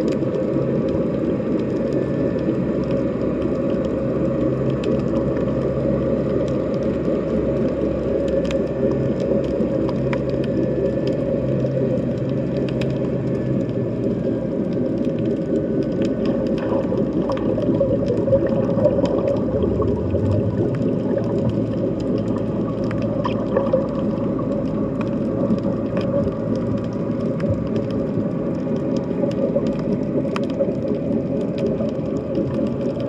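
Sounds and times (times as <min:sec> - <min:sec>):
faint underwater clicks and crackles: 0:00.0 - 0:33.0
underwater low rumble: 0:00.0 - 0:33.0.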